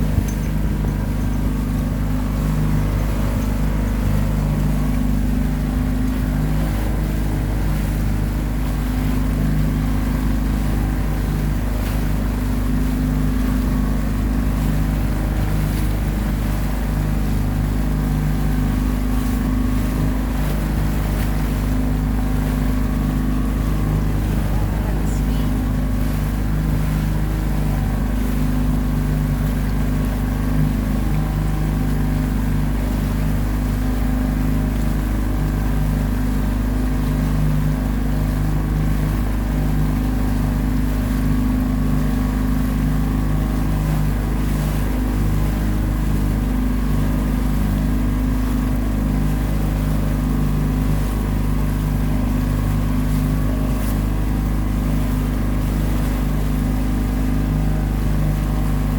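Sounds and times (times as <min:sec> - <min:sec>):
boat engine running: 0:00.0 - 0:58.9.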